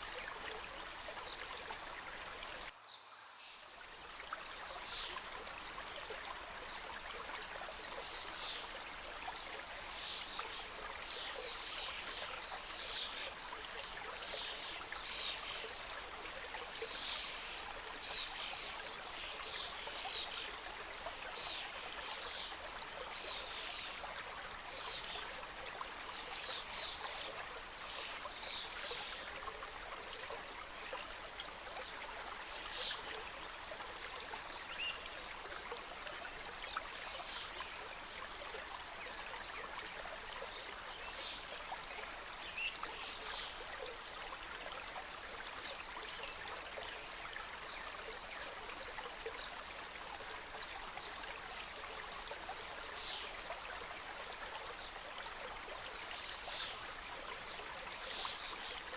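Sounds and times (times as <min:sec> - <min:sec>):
stream flowing over rocks: 0:00.0 - 0:58.9.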